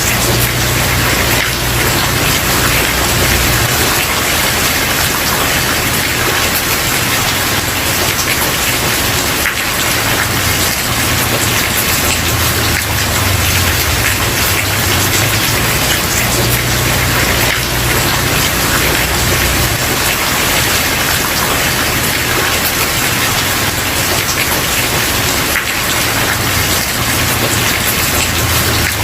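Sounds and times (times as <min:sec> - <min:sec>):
heavy rain on wooden porch: 0:00.0 - 0:29.0.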